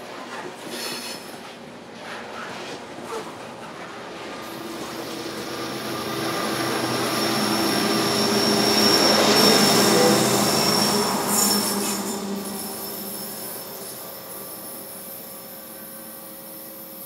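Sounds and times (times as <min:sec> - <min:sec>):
train rail noise: 0:00.0 - 0:17.0
diesel locomotive engine hum: 0:01.7 - 0:17.0.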